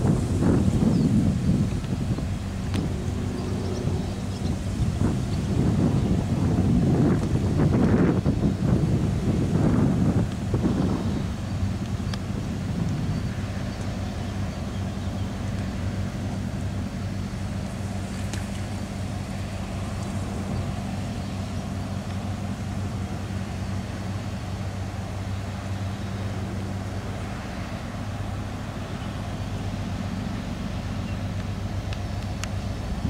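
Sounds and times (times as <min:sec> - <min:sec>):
ship diesel engine humming: 0:00.0 - 0:33.0.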